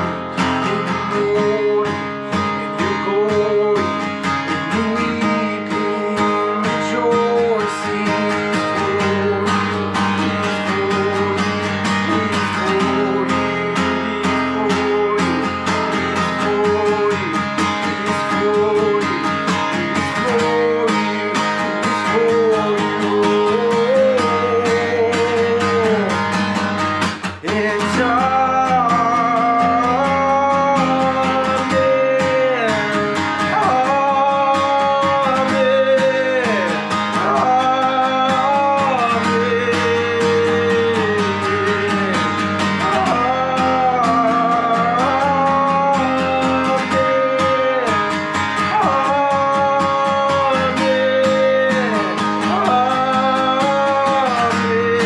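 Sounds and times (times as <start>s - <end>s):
man singing worship song: 0.0s - 26.4s, 27.1s - 55.0s
strummed acoustic guitar: 0.0s - 55.0s.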